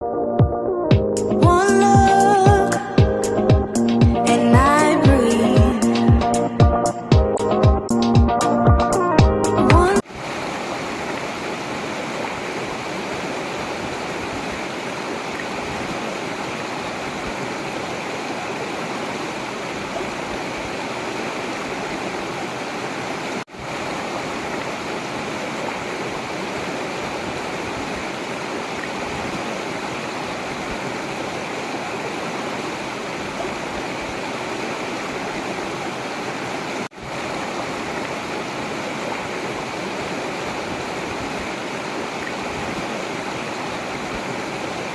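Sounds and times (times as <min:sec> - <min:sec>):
river water running: 0:01.1 - 0:08.6, 0:09.5 - 0:44.9.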